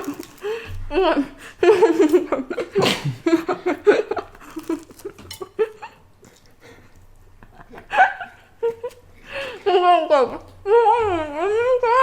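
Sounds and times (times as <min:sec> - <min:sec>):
woman laughing: 0:00.9 - 0:06.0, 0:07.4 - 0:12.0.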